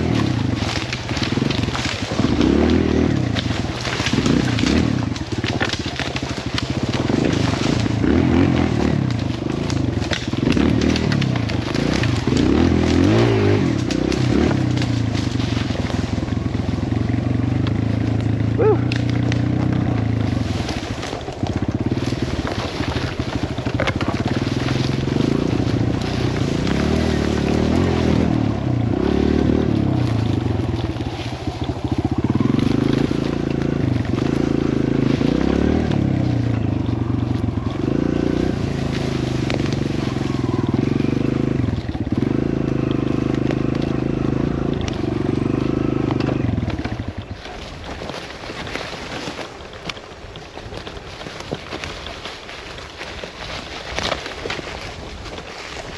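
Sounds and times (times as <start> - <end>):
dirt bike engine revving: 0.0 - 49.5.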